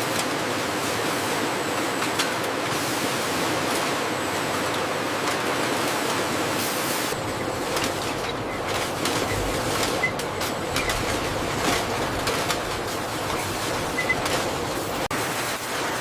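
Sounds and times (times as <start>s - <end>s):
production line machinery hiss: 0.0s - 16.0s.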